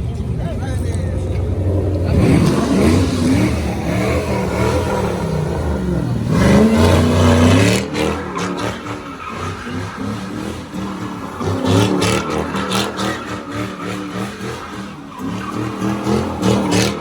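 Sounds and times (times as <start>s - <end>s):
engine revving hard: 0.0s - 17.0s
tyres skidding and squealing: 0.0s - 17.0s.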